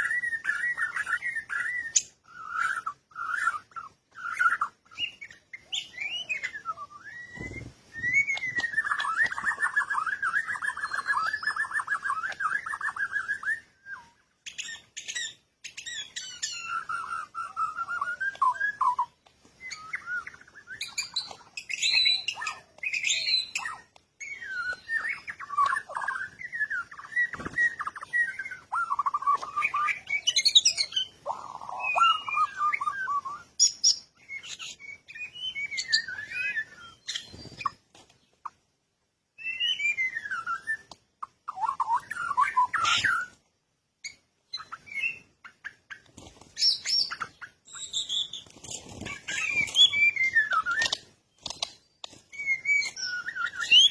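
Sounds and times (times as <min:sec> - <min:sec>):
birds chirping and trilling: 0:00.0 - 0:53.9.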